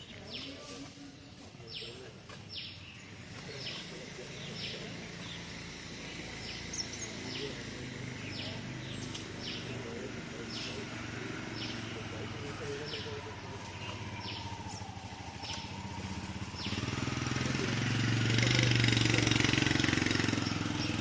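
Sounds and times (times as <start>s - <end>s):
murmur of voices: 0.0s - 21.0s.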